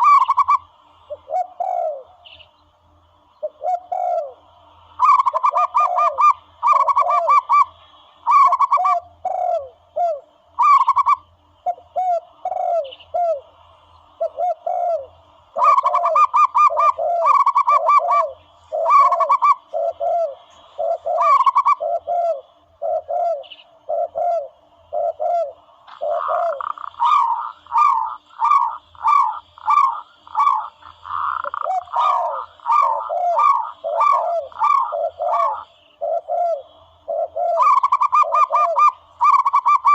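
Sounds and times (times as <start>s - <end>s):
dove cooing: 0.0s - 2.4s, 3.3s - 39.9s
higher chirps: 0.0s - 39.9s.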